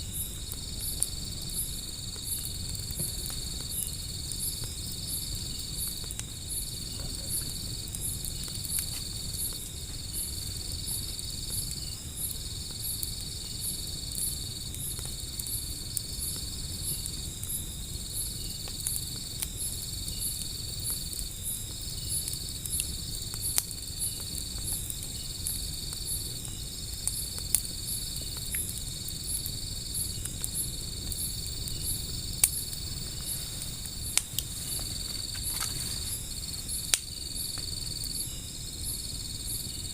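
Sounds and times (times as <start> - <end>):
fire popping: 0.0 - 39.9
higher insect chirp: 0.0 - 39.9
insect trill: 0.0 - 39.9
wood fire crackling: 0.0 - 39.9.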